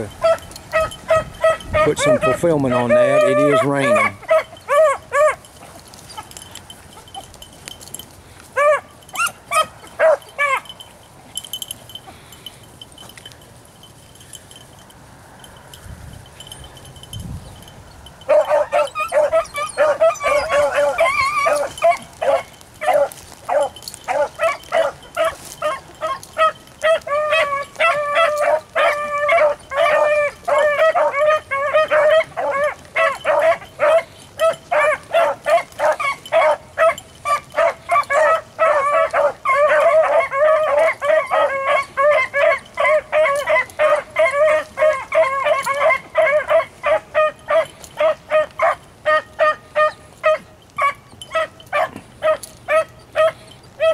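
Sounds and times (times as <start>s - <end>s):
dogs baying: 0.0s - 53.9s.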